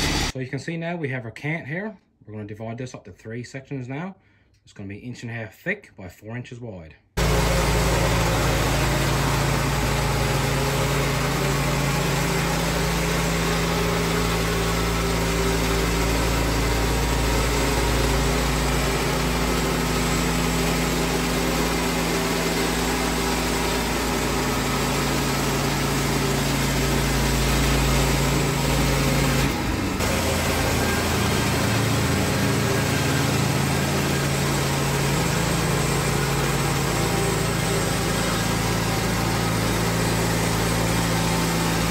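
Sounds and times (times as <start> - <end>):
bandsaw mill engine running: 0.0 - 0.4, 7.2 - 41.9.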